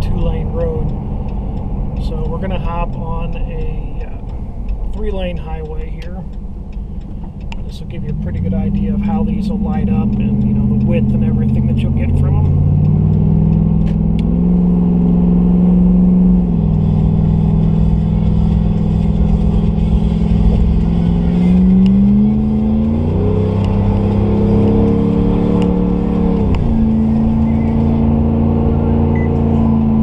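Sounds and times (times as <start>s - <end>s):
pickup engine accelerating: 0.0s - 30.0s.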